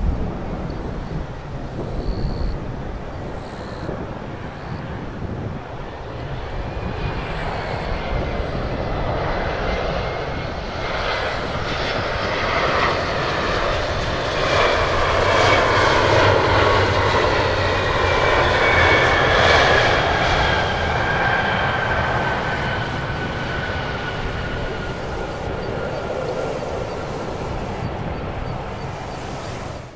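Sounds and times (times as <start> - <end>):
jet engine high whine: 0.0 - 29.9
jet plane landing: 0.0 - 29.9.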